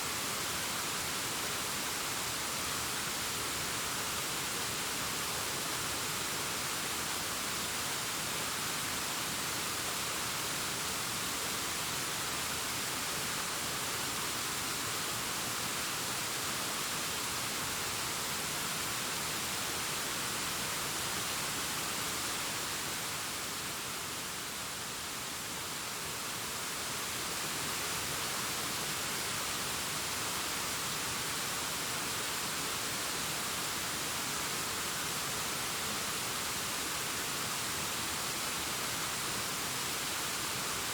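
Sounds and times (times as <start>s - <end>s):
distant waterfall: 0.0s - 40.9s.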